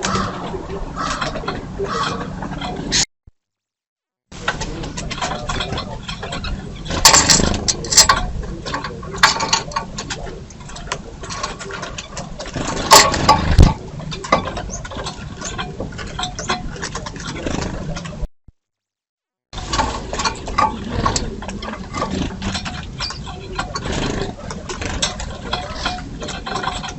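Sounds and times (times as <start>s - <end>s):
birds tapping and fluttering: 0.0s - 3.0s, 4.4s - 18.3s, 19.6s - 26.9s.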